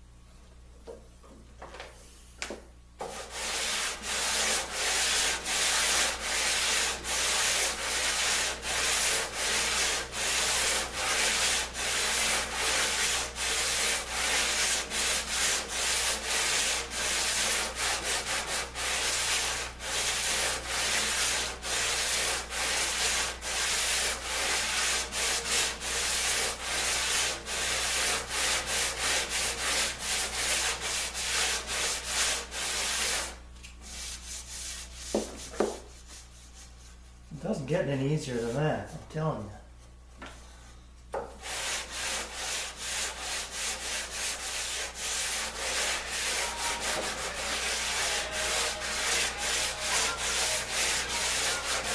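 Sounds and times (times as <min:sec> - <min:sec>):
sandpaper rubbing on wood: 0:03.0 - 0:37.0, 0:41.4 - 0:51.9.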